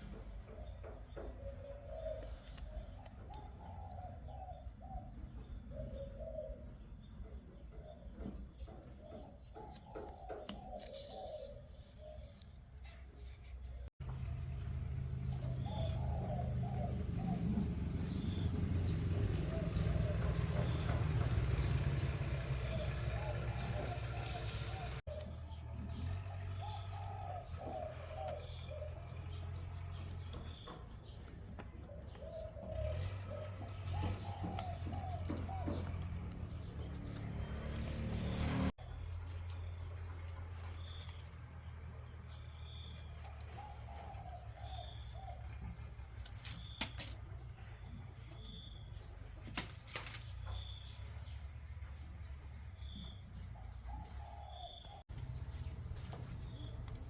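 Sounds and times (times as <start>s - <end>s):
birds warbling and chirping: 0.0s - 13.0s, 14.1s - 57.0s.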